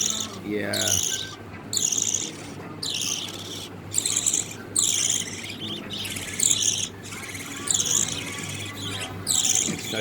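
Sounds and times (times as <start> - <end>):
chicks raspy begging calls: 0.0 - 10.0.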